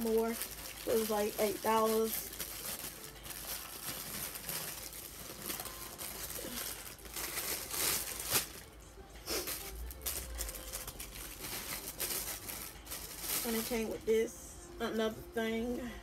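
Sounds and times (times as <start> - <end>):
plastic packaging crinkling: 0.0 - 14.1.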